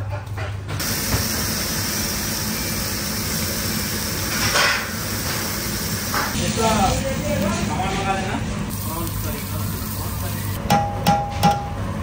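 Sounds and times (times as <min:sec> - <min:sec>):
meat sizzling in hot oil: 0:00.8 - 0:10.6.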